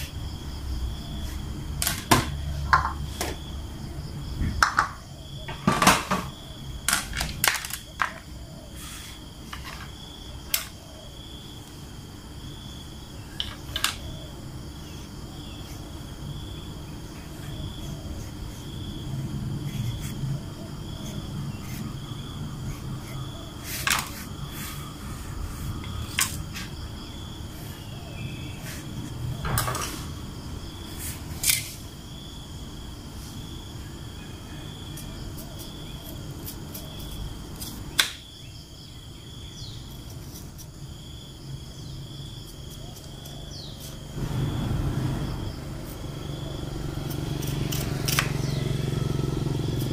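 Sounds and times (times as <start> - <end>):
high insect chirping: 0.0 - 49.9.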